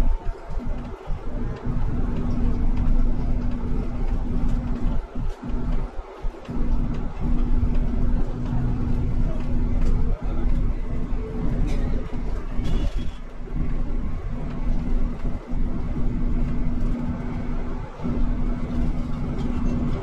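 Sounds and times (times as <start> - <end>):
bus ride rumble: 0.0 - 20.0
constant hum: 0.0 - 20.0.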